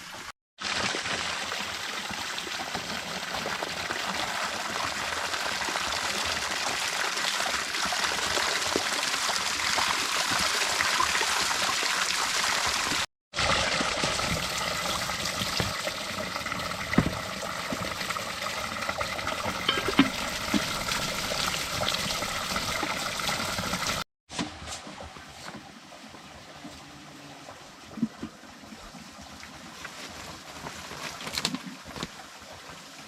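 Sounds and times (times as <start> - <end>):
water running and splashing: 0.0 - 24.0, 27.5 - 33.0.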